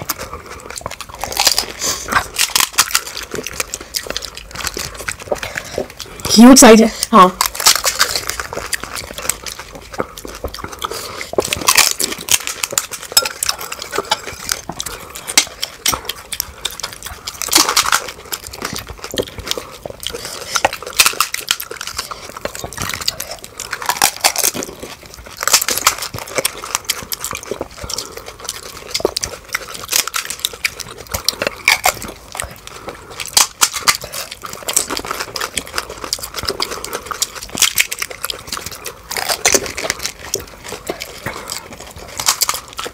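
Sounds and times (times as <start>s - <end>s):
crisp puris crunching: 0.0s - 42.9s.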